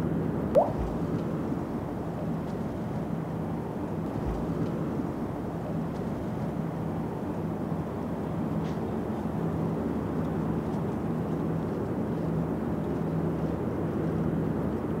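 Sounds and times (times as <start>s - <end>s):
faint steady hum: 0.0s - 15.0s
low city background rumble: 0.0s - 15.0s.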